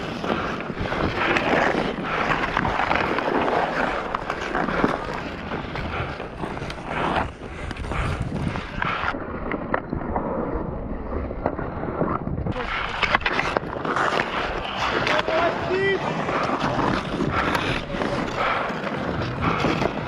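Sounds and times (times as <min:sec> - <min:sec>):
hockey sticks clacking: 0:00.0 - 0:10.0, 0:12.5 - 0:20.0
skate blades scraping ice: 0:00.0 - 0:20.0.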